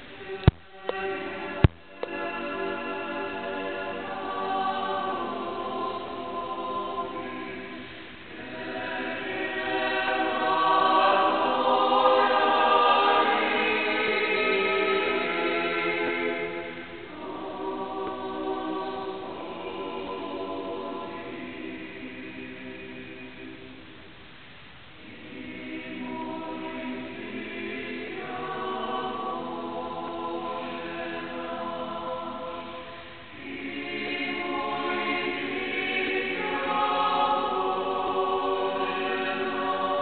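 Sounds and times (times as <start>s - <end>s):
mixed choir singing: 0.0s - 23.9s, 25.0s - 40.0s.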